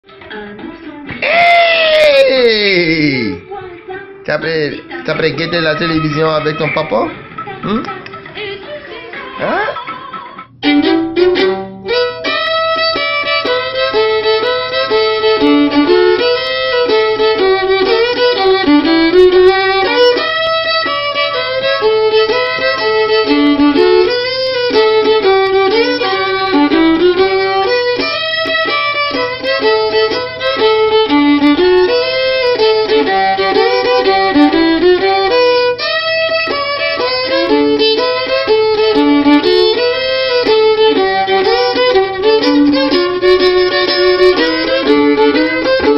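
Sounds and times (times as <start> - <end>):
solo fiddle playing lively tune: 0.1 - 9.1, 10.6 - 45.9.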